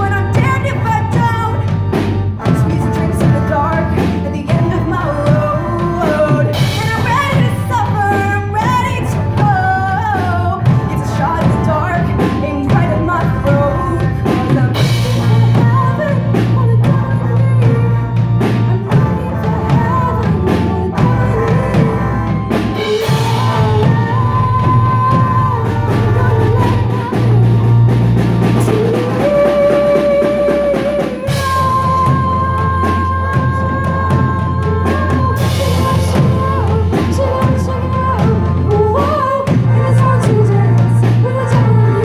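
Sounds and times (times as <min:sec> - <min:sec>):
live rock band playing: 0:00.0 - 0:42.0
girl singing: 0:02.4 - 0:27.8, 0:28.6 - 0:42.0.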